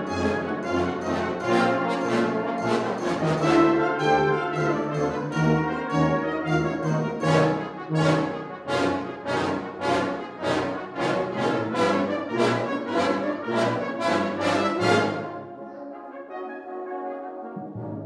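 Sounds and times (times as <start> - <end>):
brass band playing chords: 0.0 - 18.0.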